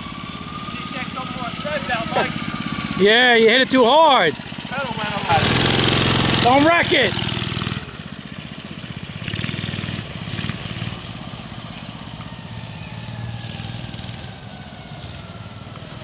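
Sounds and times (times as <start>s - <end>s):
minibike engine revving: 0.0s - 16.0s.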